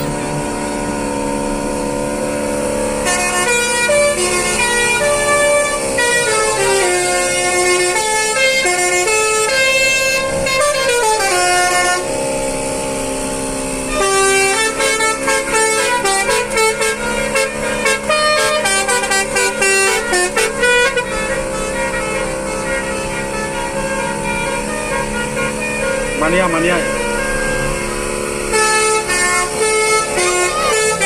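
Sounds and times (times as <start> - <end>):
musical car horn playing a tune: 0.0 - 31.0.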